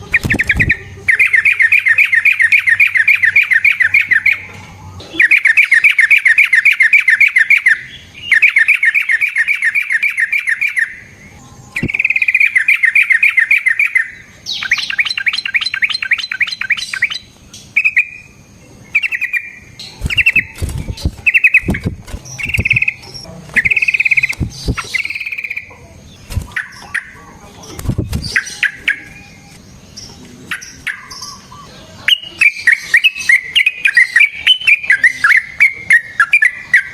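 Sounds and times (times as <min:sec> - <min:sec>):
bird singing: 0:00.0 - 0:36.9.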